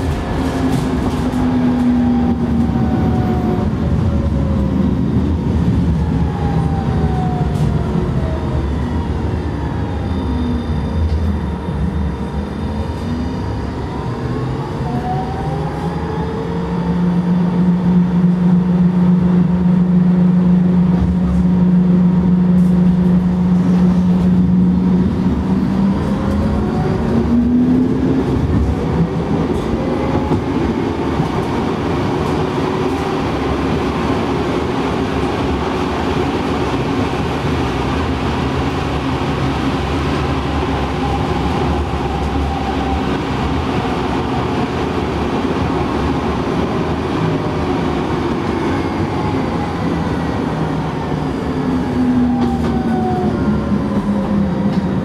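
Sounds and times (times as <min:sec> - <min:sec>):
tram motor hum: 0:00.0 - 0:55.0
wheels rumbling on track: 0:00.0 - 0:55.0.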